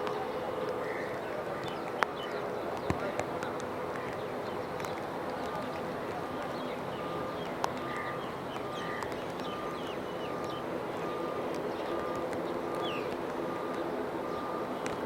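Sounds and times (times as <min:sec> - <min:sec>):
distant jet engine: 0:00.0 - 0:15.0
small birds chirping: 0:00.8 - 0:15.0.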